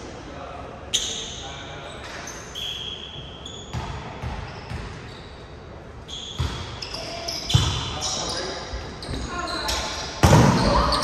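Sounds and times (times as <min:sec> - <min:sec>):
sneaker squeaks on floor: 0:00.9 - 0:11.0.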